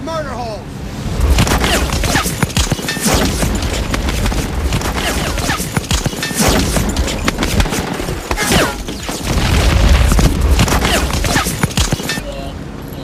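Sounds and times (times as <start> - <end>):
booming explosions: 1.1 - 12.0
continuous gunfire: 1.2 - 12.3.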